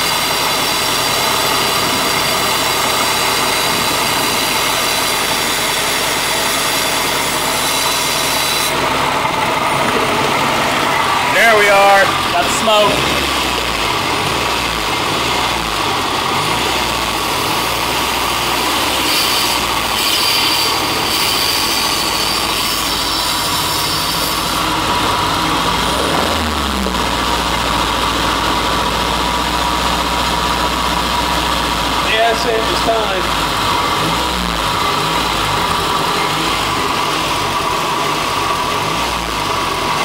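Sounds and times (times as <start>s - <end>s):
car engine idling: 0.0s - 19.9s, 22.0s - 40.0s.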